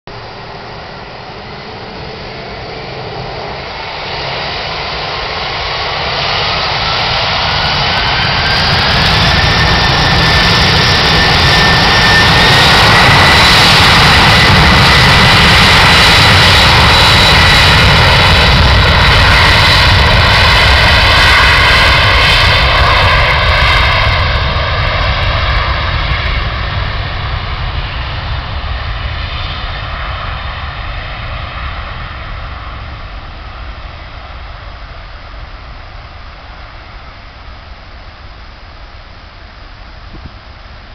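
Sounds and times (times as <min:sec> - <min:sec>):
jet engines spooling up: 0:00.2 - 0:38.8.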